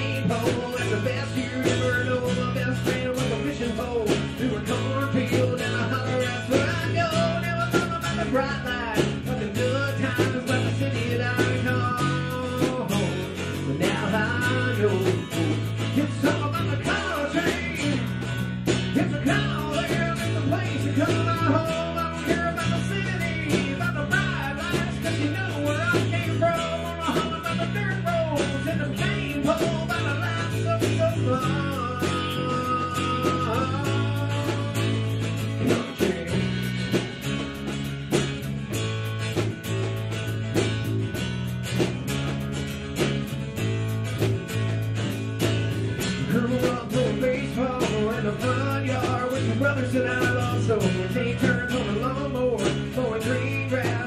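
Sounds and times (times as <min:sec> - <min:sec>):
upbeat rock song: 0:00.0 - 0:54.0.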